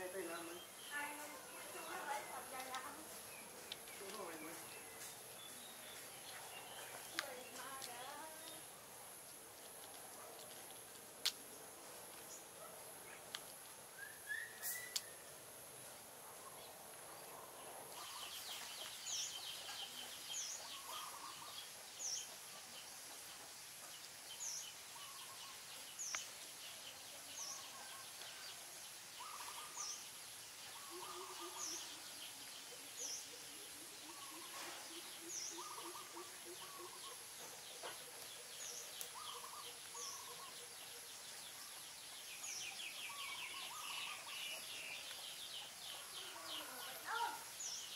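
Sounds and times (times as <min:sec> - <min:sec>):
birds calling: 0:00.0 - 0:47.9
steady high hiss: 0:00.0 - 0:47.9.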